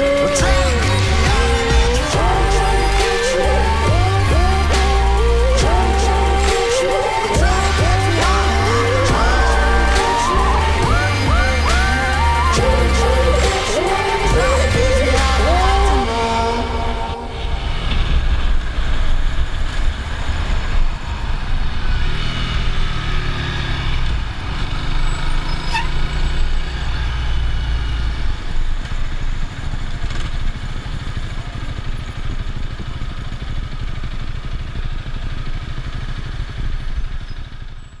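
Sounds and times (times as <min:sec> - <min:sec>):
wind and road noise: 0:00.0 - 0:37.8
motorcycle engine running: 0:00.0 - 0:38.0.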